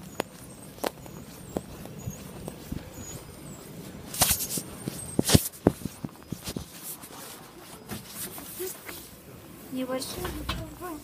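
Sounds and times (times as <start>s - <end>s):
footsteps in snow: 0.0s - 9.0s.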